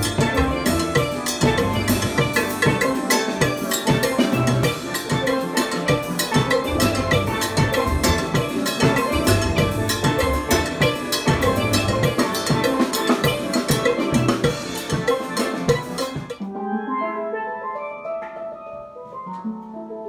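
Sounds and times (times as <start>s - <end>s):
drum kit beat: 0.0s - 16.4s
steel pans playing: 0.0s - 16.4s.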